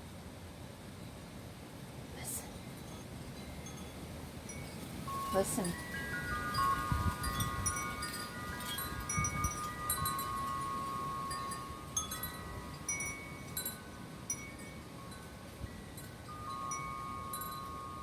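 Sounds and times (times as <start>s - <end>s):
wind chimes ringing: 2.6s - 18.0s
wind gusts on microphone: 2.6s - 18.0s.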